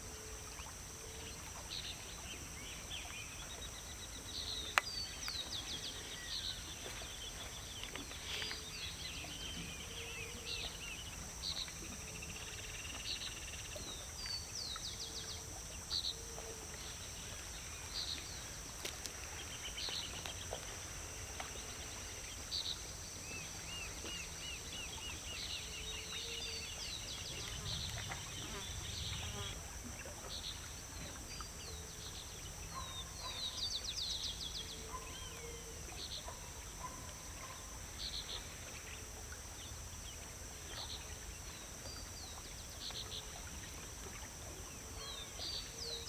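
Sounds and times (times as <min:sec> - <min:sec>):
high insect drone: 0:00.0 - 0:46.0.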